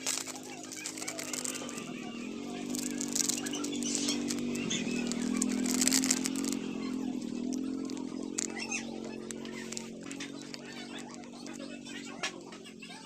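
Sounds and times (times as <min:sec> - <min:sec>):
rustling: 0:00.0 - 0:11.6
machine droning hum: 0:00.0 - 0:13.0.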